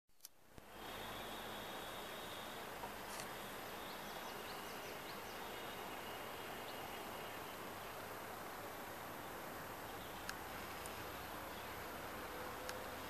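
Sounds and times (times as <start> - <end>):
background hiss: 0.1 - 13.0.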